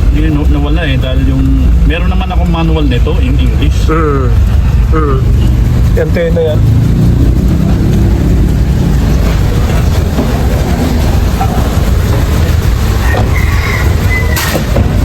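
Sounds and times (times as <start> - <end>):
misfiring engine rumbling: 0.0 - 15.0.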